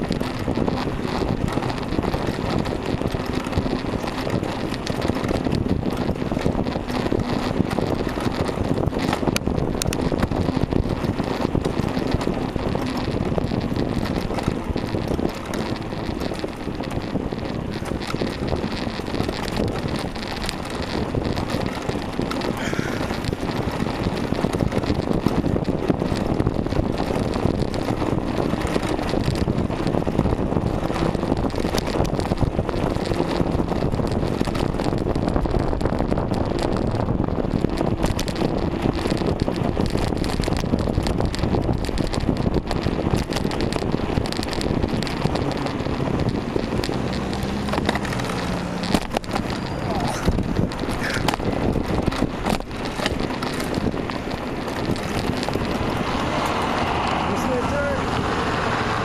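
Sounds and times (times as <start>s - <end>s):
road and tyre rumble: 0.0s - 59.0s
wind buffeting microphone: 0.0s - 59.0s.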